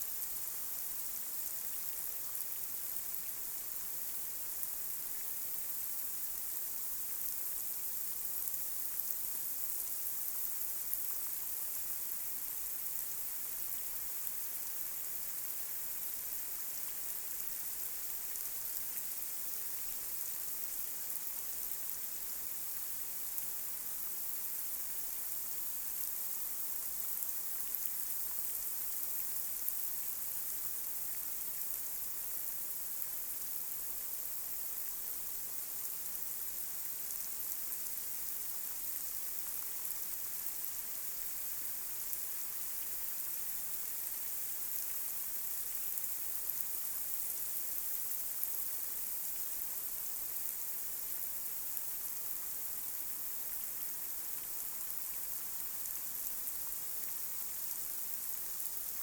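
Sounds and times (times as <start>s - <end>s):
light rain hiss: 0.0s - 59.0s.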